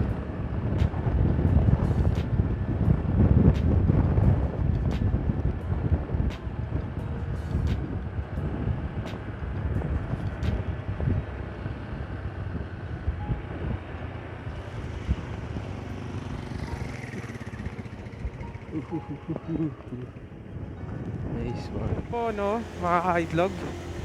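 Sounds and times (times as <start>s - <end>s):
scooter engine running: 0.0s - 24.0s
wind buffeting microphone: 0.0s - 24.0s.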